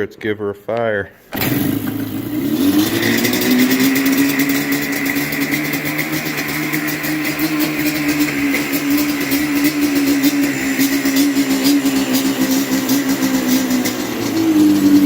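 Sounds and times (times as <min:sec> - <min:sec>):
two-stroke engine running: 0:01.4 - 0:15.0.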